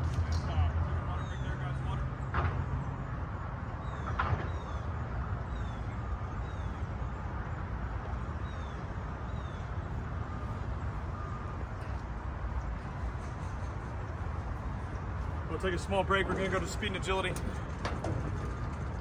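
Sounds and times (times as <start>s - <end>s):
birds chirping: 0.5s - 19.0s.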